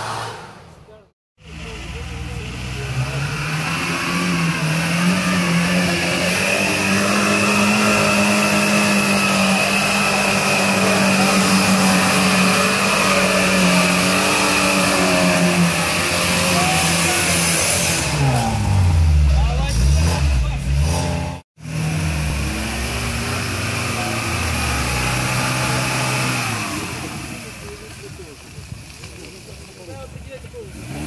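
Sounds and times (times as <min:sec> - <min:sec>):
car engine revving hard: 0:01.4 - 0:27.7, 0:30.7 - 0:31.0.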